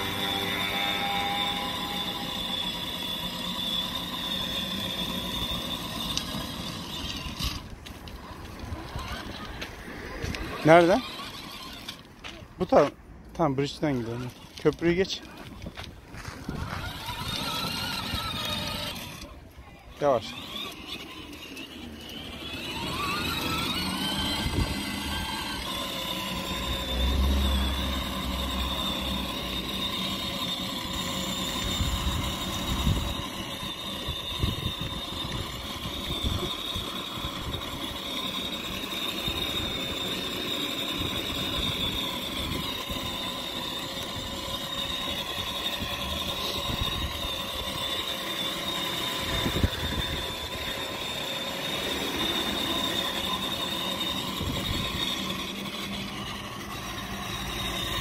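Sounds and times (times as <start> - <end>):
electric motor whine: 0.0 - 13.0, 13.6 - 58.0
wheels rumbling over asphalt: 0.0 - 58.0.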